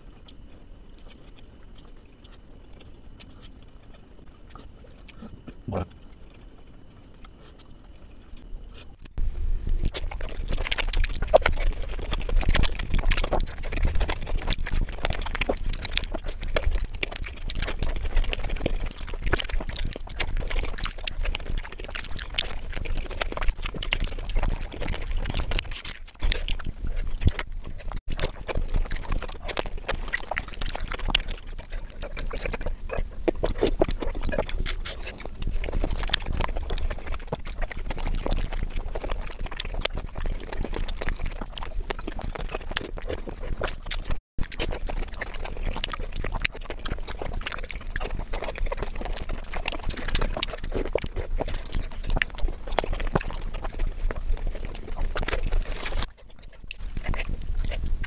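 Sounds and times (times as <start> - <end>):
chewing mouth clicks: 0.0 - 58.0.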